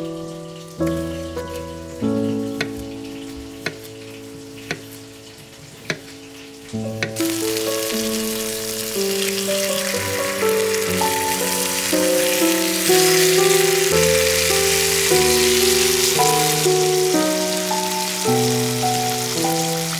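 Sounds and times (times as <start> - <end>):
meat sizzling in hot oil: 0.0 - 19.9.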